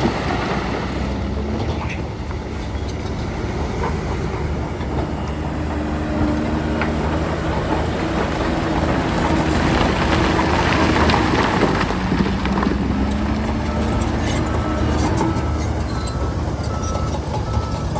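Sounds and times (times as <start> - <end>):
heavy machinery diesel engine: 0.0 - 17.9
clattering and crunching: 1.5 - 17.9.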